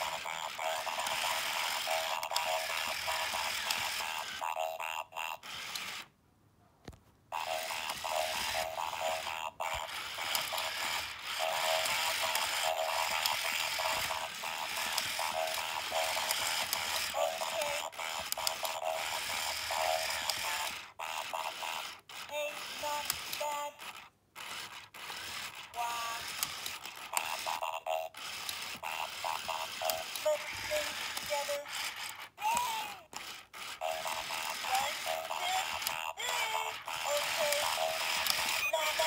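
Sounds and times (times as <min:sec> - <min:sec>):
small gear motors whirring and clicking: 0:00.0 - 0:06.1, 0:07.3 - 0:39.0
tinny electronic toy sounds: 0:00.0 - 0:06.1, 0:07.3 - 0:39.0.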